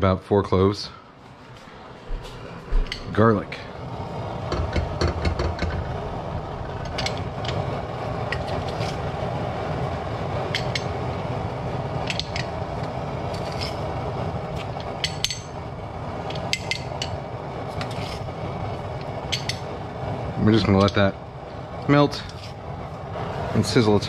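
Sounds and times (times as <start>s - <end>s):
low rushing noise: 1.2s - 24.0s.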